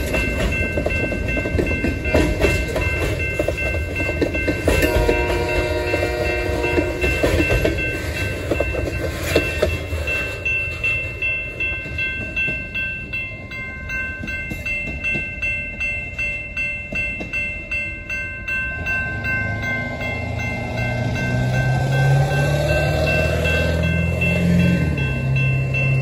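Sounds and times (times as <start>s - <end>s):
railroad crossing bell ringing: 0.0s - 26.0s
train wheels rumbling and clattering: 0.0s - 26.0s.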